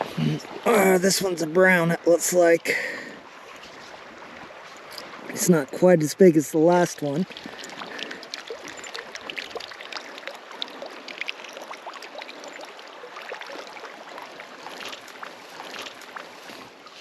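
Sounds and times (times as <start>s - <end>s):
river water rushing and splashing: 0.0s - 17.0s.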